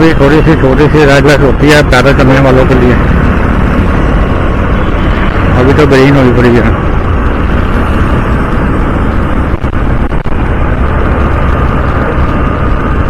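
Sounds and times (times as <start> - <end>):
road traffic noise: 0.0 - 13.0
wind rush: 0.0 - 13.0.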